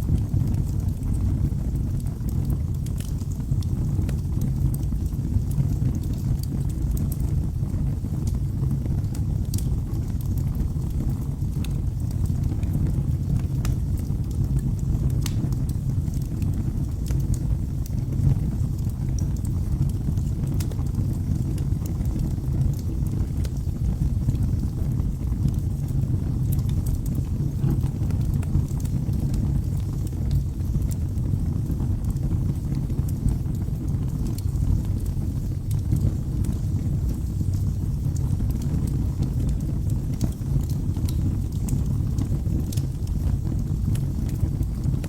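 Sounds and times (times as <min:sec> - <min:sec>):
fire flames rumbling: 0:00.0 - 0:45.0
logs crackling and popping: 0:00.0 - 0:45.0.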